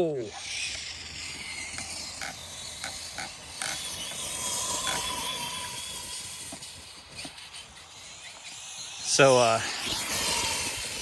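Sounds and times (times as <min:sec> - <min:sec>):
steady high hiss: 0:00.0 - 0:11.0
electric motor whining: 0:00.2 - 0:11.0.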